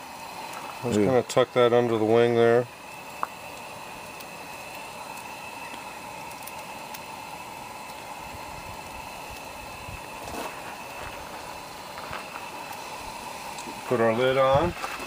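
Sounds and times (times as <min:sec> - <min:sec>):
faint high whine: 0:00.0 - 0:15.0
steady background hiss: 0:00.0 - 0:15.0.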